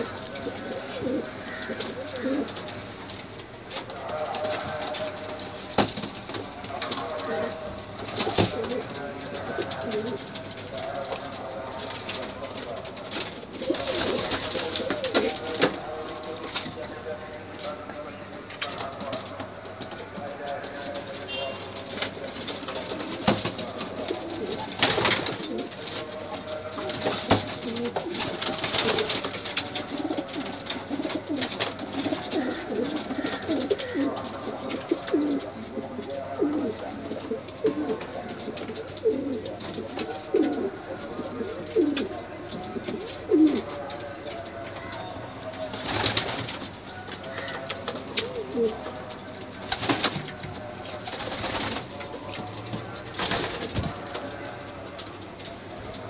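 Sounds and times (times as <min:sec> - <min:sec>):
pigeons cooing: 0:00.0 - 0:54.9
noisy rustles: 0:00.0 - 0:56.0.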